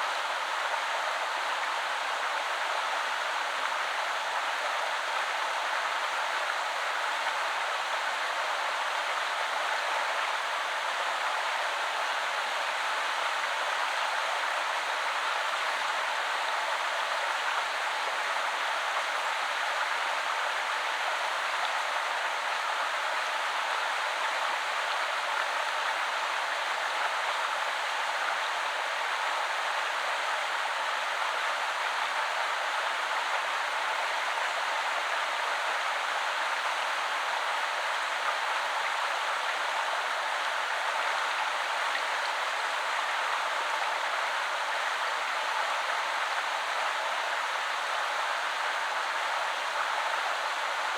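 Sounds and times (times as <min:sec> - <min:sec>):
river water flowing: 0:00.1 - 0:50.9.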